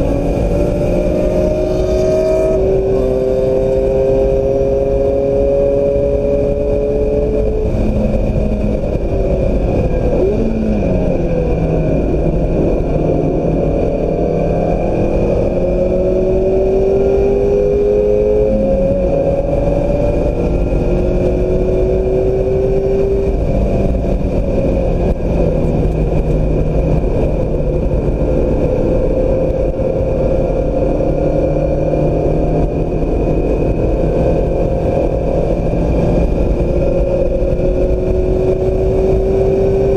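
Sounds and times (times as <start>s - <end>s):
car engine revving: 0.0s - 39.9s
wind and road noise: 0.0s - 39.9s.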